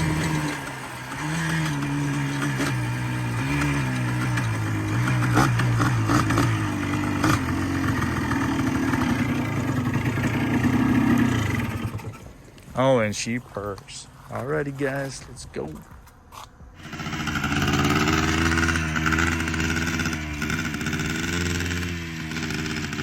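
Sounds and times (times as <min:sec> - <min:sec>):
two-stroke engine idling: 0:00.0 - 0:12.4, 0:16.8 - 0:23.0.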